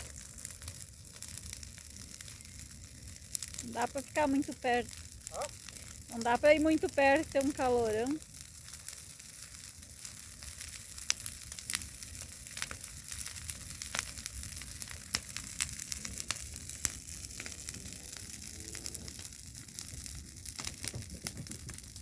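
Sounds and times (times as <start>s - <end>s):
bonfire crackling and popping: 0.0s - 22.0s
bonfire hissing: 0.0s - 22.0s.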